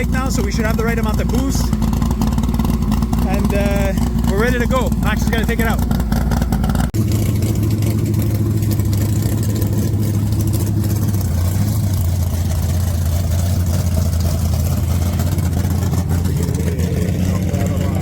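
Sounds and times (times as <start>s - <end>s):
car engine fast idle: 0.0s - 18.0s.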